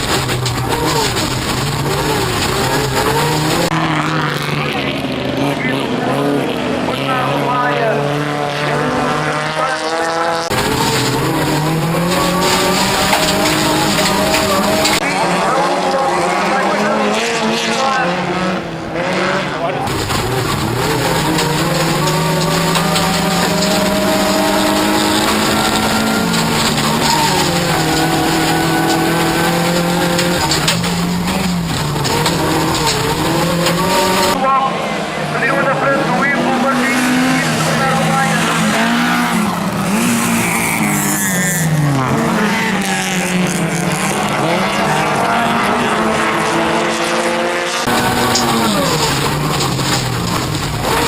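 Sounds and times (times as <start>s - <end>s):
race car engine running hard: 0.0s - 51.0s
road noise: 0.0s - 51.0s.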